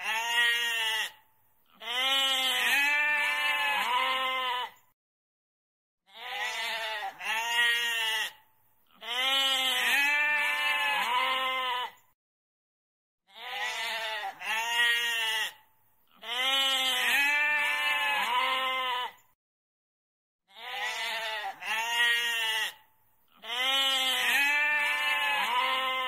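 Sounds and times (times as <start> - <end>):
goat bleating: 0.0 - 4.8, 6.1 - 12.0, 13.3 - 19.2, 20.5 - 26.0.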